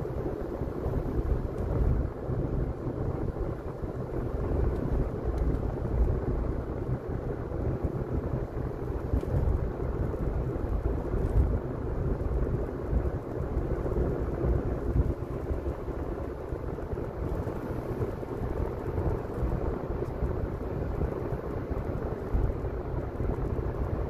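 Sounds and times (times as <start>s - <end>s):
car engine at cruising speed: 0.0s - 24.0s
tyres rumbling on road: 0.0s - 24.0s.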